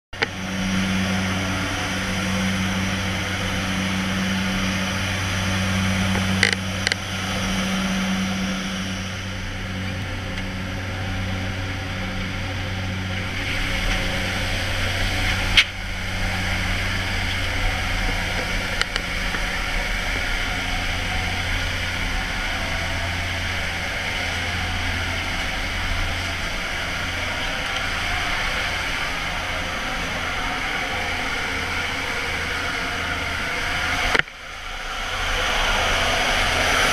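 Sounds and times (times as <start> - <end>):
plane engine drone: 0.1 - 36.9
rushing air hiss: 0.2 - 36.9.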